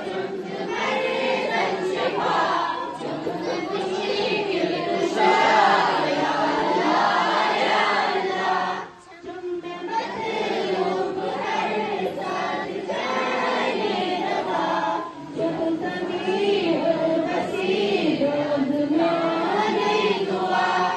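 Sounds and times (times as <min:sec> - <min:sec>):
group of children singing: 0:00.0 - 0:20.9.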